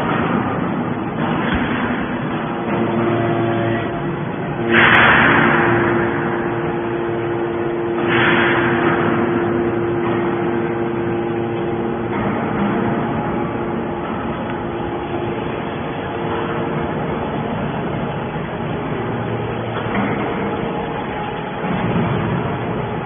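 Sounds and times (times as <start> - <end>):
hydraulic pump hum: 0.0 - 23.0
hydraulic rushing surges: 0.0 - 23.0.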